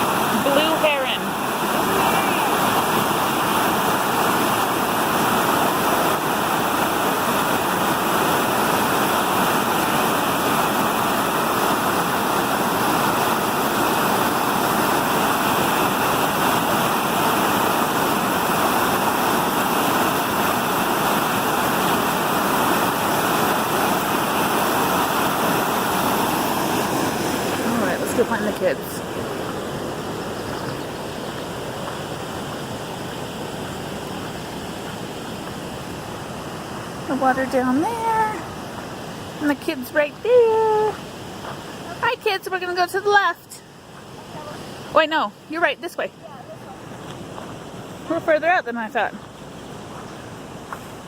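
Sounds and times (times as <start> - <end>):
creek water rushing: 0.0 - 51.0.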